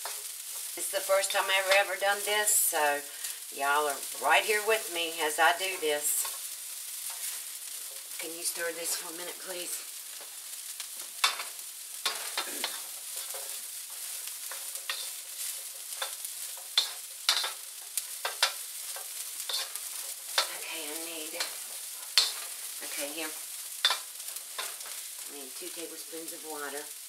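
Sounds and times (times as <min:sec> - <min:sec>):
wooden spoon scraping wok: 0:00.0 - 0:02.3, 0:05.7 - 0:27.0
broccoli sizzling in wok: 0:00.0 - 0:27.0.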